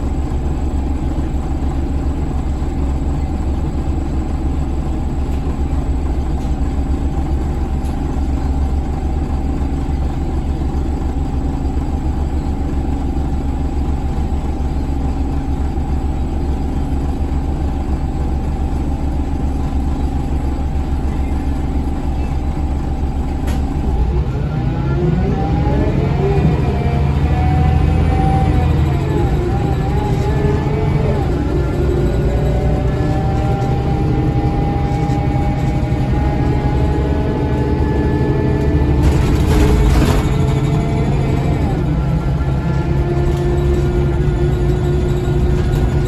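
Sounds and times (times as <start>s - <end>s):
bus diesel engine idling: 0.0s - 46.0s.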